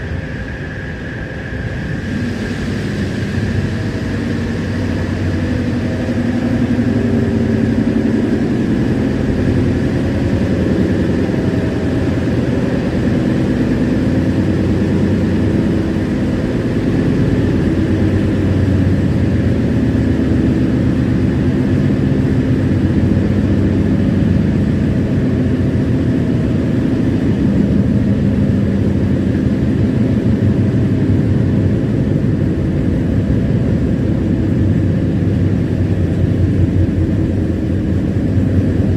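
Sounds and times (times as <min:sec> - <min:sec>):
passenger train rumbling: 0:00.0 - 0:38.9.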